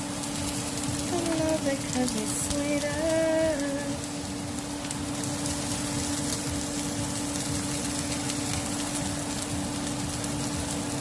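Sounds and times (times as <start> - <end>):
mushrooms sizzling in a hot pan: 0.0 - 11.0.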